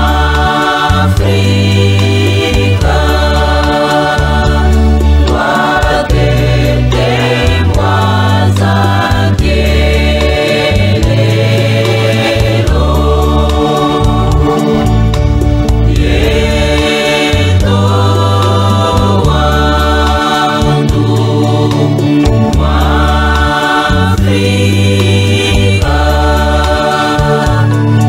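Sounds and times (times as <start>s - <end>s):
choir singing gospel: 0.0s - 28.0s
steady bass line: 0.0s - 28.0s.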